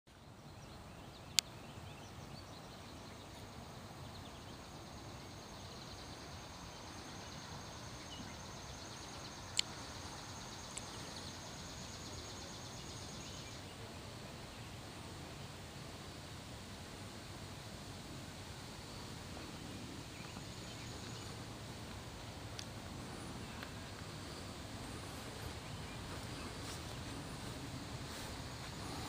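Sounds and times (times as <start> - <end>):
faint outdoor ambient noise: 0.1 - 29.0.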